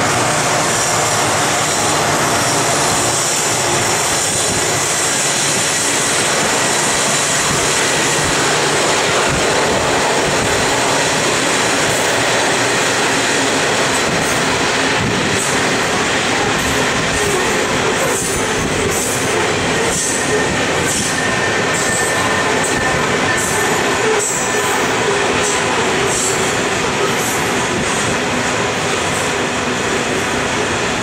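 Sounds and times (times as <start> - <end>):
diesel locomotives hauling train: 0.0 - 31.0
wagons rumbling on rails: 0.0 - 31.0.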